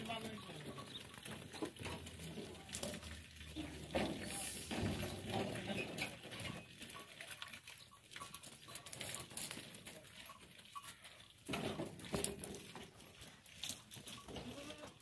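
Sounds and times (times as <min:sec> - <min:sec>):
goats pattering and shuffling: 0:00.0 - 0:15.0.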